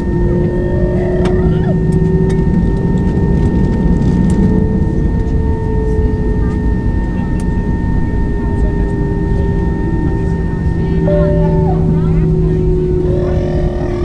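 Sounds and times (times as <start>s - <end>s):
airplane cabin hum: 0.0s - 14.0s
faint rising whine: 0.0s - 14.0s.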